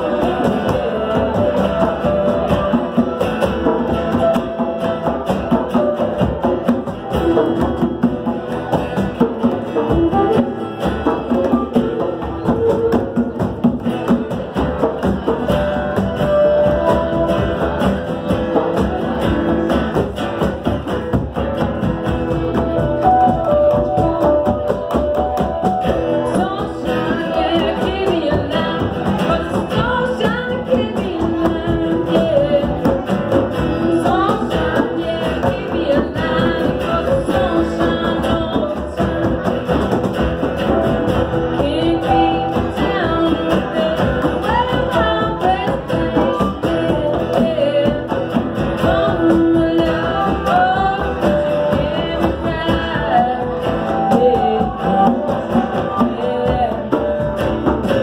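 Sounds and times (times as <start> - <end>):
woman singing: 0.0 - 21.1, 22.0 - 58.0
electric guitar: 0.0 - 58.0
hand-played percussion beat: 0.0 - 58.0
strummed acoustic guitar: 0.0 - 58.0.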